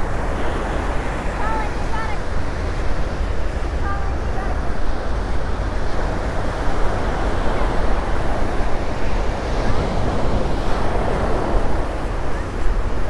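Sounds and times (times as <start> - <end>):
surf washing onto beach: 0.0 - 13.0
wind rumbling on microphone: 0.0 - 13.0.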